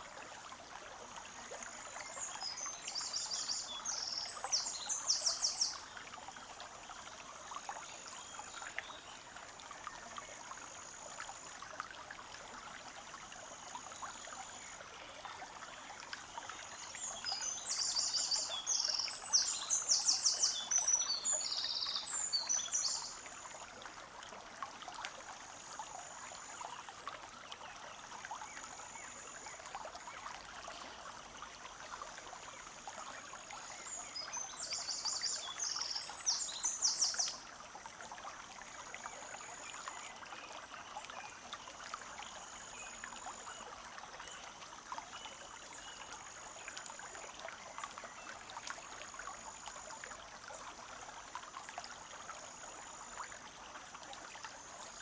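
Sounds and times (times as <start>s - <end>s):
stream trickling and gurgling: 0.0s - 55.0s.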